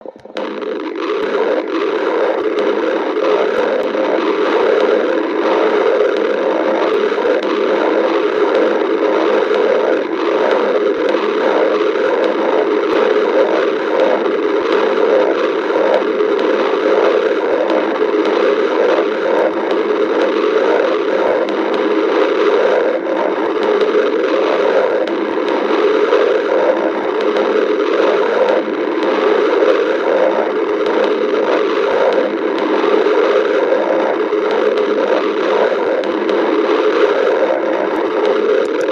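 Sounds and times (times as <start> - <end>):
stomach growling: 0.0 - 38.9.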